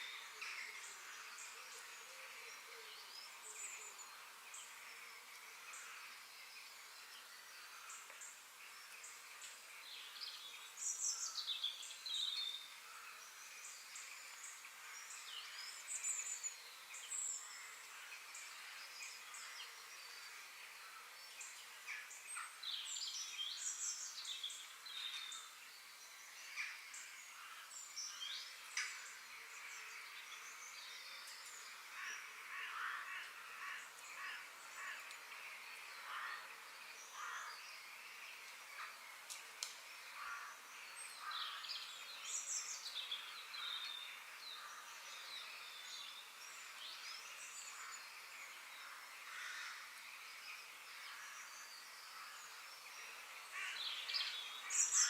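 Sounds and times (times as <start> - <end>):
faint steady hiss: 0.0 - 55.0
wild birds chirping: 0.0 - 55.0.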